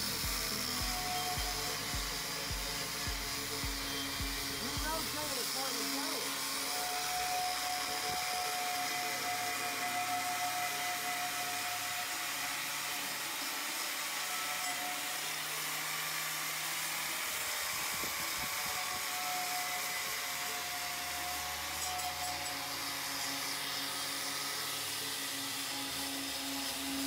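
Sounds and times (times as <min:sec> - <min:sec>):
angle grinder with wire wheel: 0:00.0 - 0:27.0.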